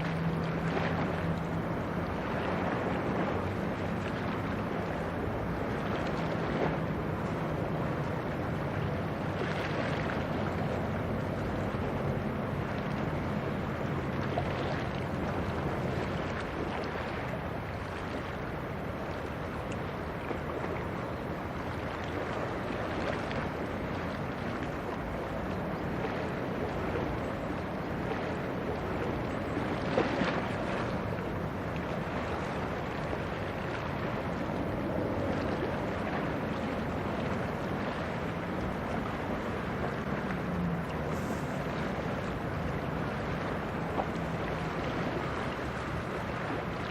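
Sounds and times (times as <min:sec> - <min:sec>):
ship engine drone: 0:00.0 - 0:46.9
wind and water wash: 0:00.0 - 0:46.9.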